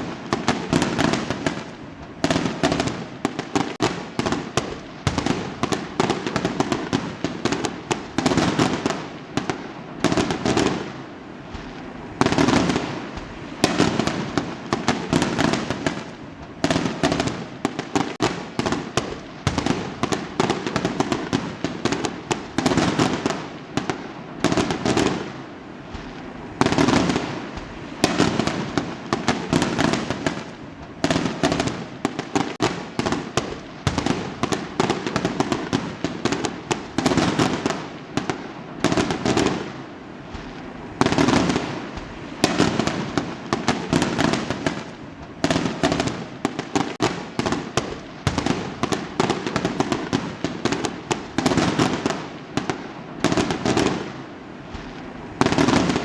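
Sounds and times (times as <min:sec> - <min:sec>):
fireworks banging: 0:00.0 - 0:56.0
fireworks crackling: 0:00.0 - 0:56.0.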